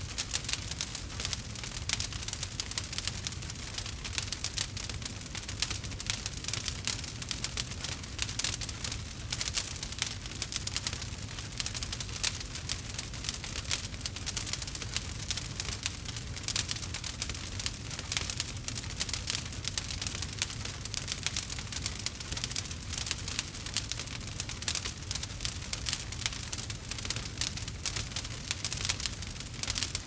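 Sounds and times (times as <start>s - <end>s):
campfire crackling and popping: 0.0s - 30.0s
low rumble of flames: 0.0s - 30.0s.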